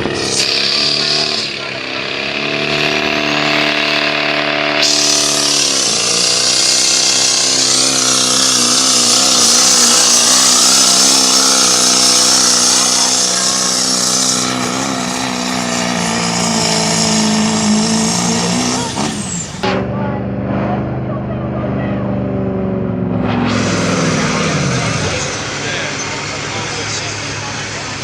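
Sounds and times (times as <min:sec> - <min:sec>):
truck engine running hard: 0:00.0 - 0:28.0.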